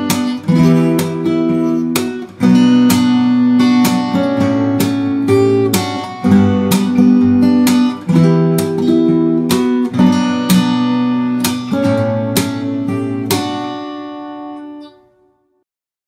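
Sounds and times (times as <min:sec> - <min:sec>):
guitar strumming chords: 0:00.0 - 0:15.1.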